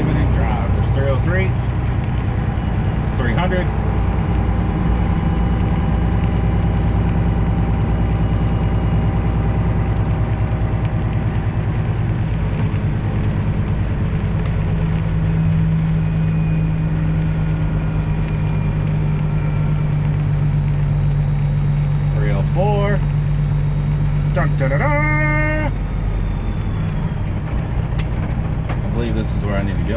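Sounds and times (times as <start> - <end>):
truck diesel engine droning: 0.0 - 29.9.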